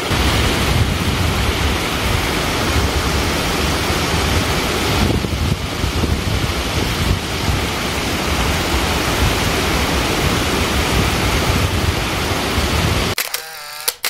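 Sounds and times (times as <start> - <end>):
waterfall over rocks: 0.0 - 13.2.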